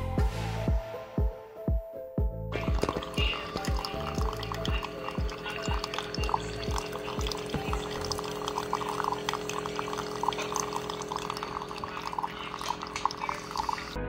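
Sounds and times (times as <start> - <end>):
coffee maker hum: 2.5 - 14.0
coffee pouring into mug: 2.6 - 14.0.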